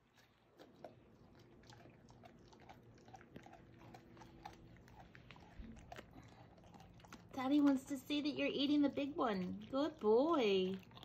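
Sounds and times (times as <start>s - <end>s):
dog chewing bone: 0.0s - 11.0s.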